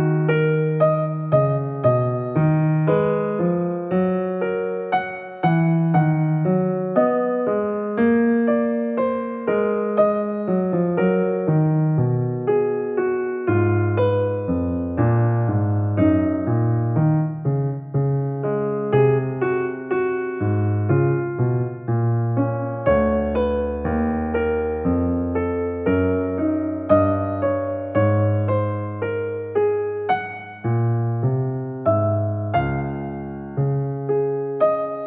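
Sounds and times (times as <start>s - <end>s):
gentle electric piano music: 0.0s - 35.0s.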